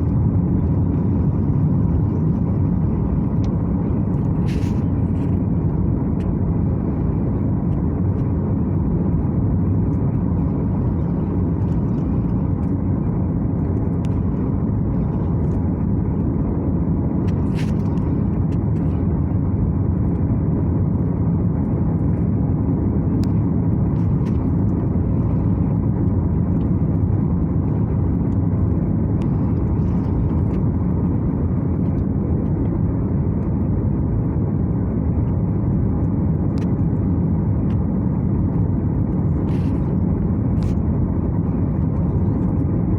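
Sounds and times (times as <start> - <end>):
airflow over fuselage: 0.0 - 42.9
airplane cabin engine rumble: 0.0 - 42.9.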